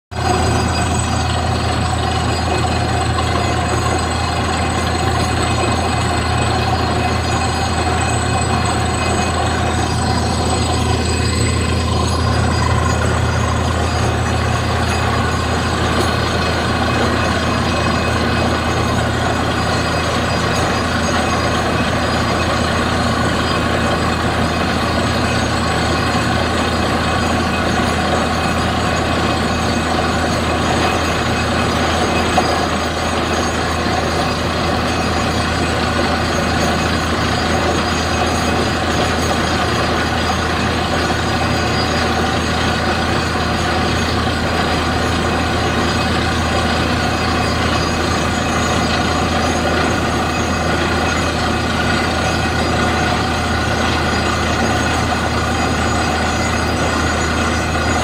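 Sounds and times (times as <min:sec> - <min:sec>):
drilling rig engine drone: 0:00.1 - 0:58.0.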